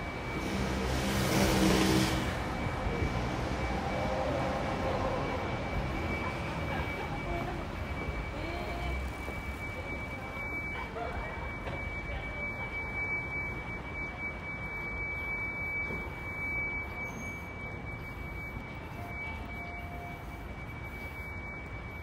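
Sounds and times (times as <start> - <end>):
city street ambience: 0.0 - 22.0
steady high-pitched tone: 0.0 - 22.0.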